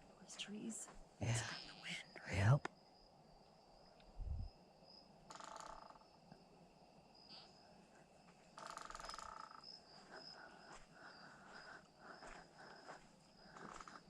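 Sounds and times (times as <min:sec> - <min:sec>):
insects chirring: 0:00.0 - 0:14.0
pulsed buzzing insect trills: 0:00.3 - 0:14.0.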